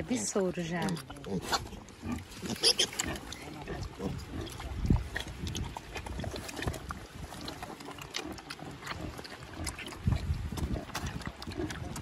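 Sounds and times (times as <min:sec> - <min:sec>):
piglets slurping from a trough: 0:00.0 - 0:12.0.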